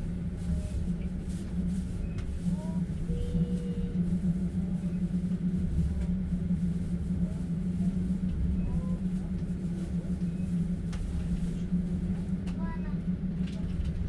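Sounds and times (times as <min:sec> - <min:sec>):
constant low hum: 0:00.0 - 0:14.0
train carriage rumbling: 0:00.0 - 0:14.0.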